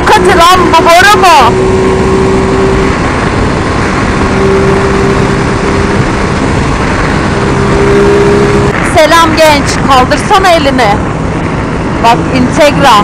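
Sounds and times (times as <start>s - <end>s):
motorcycle engine cruising: 0.0s - 13.0s
wind rush on microphone: 0.0s - 13.0s.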